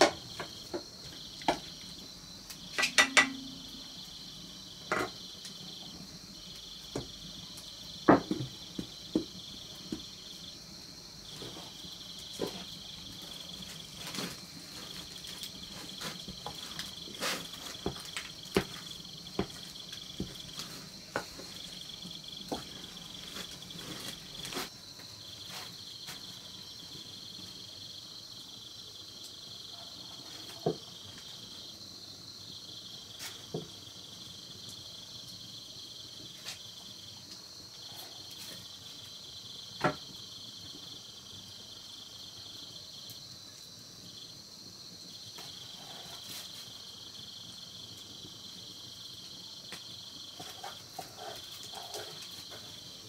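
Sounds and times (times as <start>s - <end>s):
insects trilling: 0.0s - 53.0s
intermittent insect trill: 0.0s - 53.0s.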